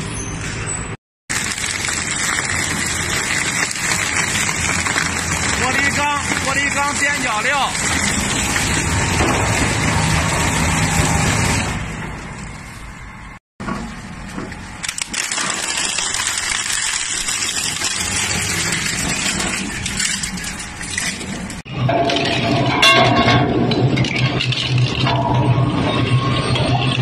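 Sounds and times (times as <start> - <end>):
crusher machine grinding: 1.3 - 12.4, 14.5 - 27.0.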